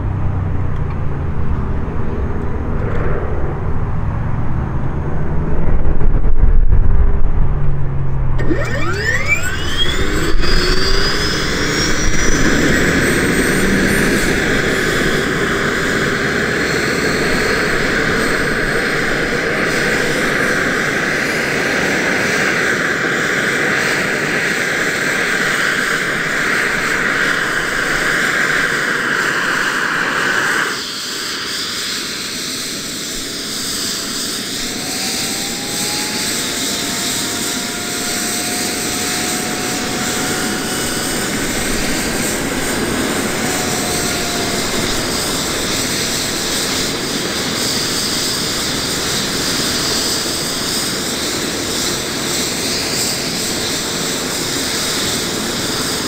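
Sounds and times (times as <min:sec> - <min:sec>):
turbine whines rising: 0:00.0 - 0:56.0.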